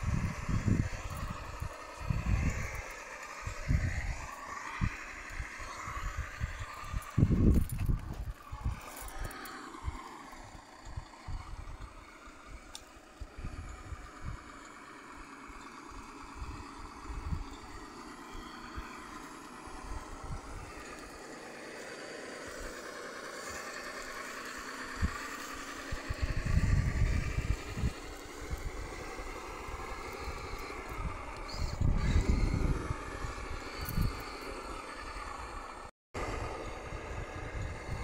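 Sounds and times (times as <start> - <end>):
loud low rumbles: 0.0 - 38.0
toy car electric motor whining: 0.0 - 38.0.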